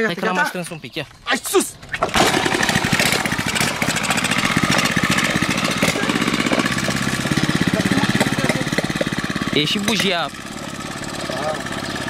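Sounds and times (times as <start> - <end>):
small engine running: 1.1 - 12.0.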